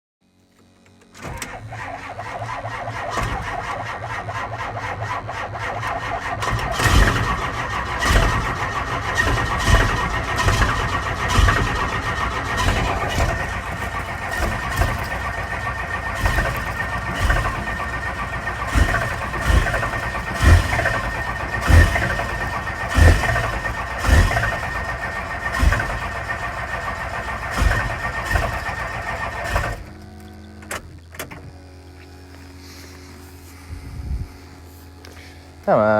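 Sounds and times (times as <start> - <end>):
starter motor cranking whine: 0.4 - 35.9
diesel cylinders firing thumps: 1.1 - 31.6.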